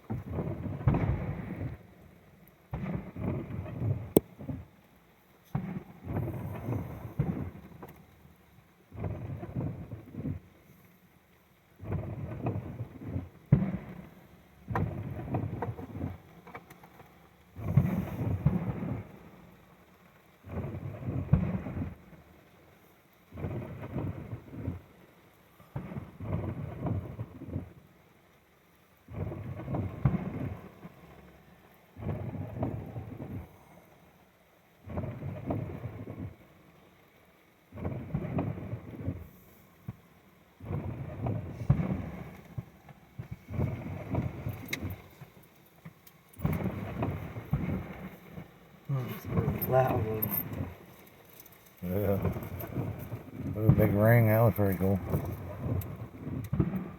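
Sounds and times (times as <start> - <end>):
fireworks booming: 0.0 - 8.3, 8.9 - 10.6, 11.8 - 19.8, 20.4 - 22.4, 23.3 - 24.9, 25.6 - 27.8, 29.1 - 34.1, 34.8 - 36.7, 37.7 - 56.9
fireworks crackling: 0.0 - 56.9.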